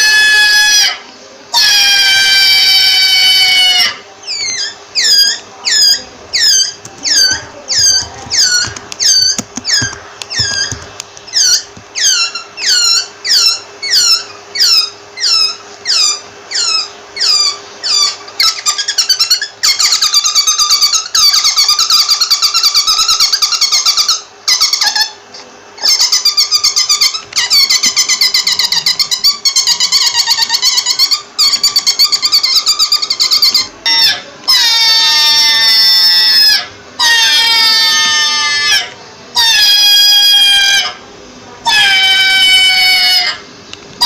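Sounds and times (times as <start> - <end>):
rabbit squeaking: 0.0 - 44.0.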